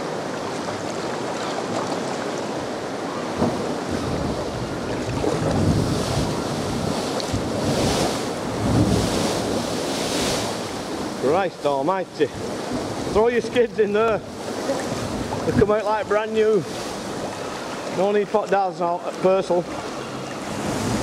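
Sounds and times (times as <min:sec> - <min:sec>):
waves breaking against cliff: 0:00.0 - 0:21.0
wind buffeting microphone: 0:00.1 - 0:11.2, 0:12.3 - 0:18.0, 0:19.6 - 0:21.0.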